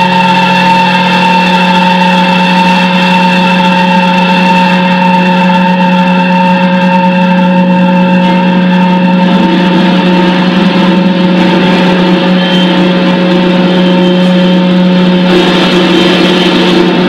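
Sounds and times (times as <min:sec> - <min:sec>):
harsh noise wash: 0:00.0 - 0:17.0
low guitar drone: 0:00.0 - 0:17.0.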